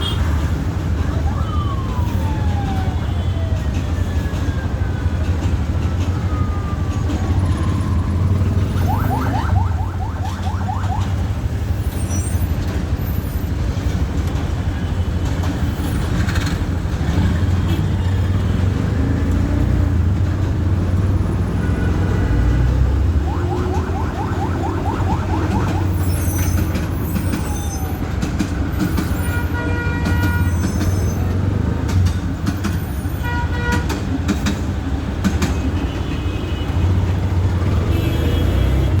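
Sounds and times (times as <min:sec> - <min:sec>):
train rumbling: 0:00.0 - 0:39.0.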